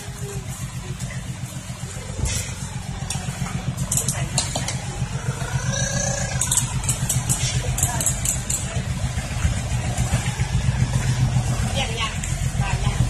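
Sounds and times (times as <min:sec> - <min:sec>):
diesel truck engine rumbling: 0:00.0 - 0:13.0
sharp clicks and rattles: 0:00.1 - 0:13.0.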